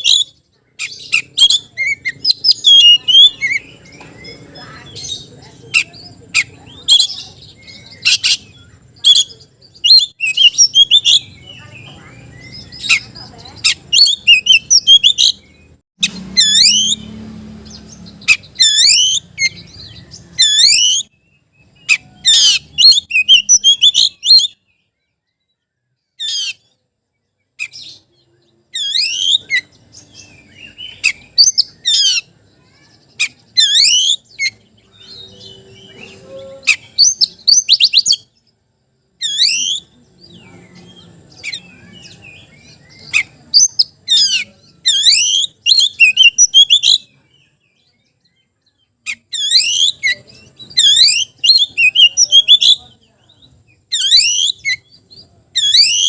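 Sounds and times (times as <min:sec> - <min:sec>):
magpie-robin singing whistled phrases: 0:00.0 - 0:38.5, 0:39.2 - 0:56.0.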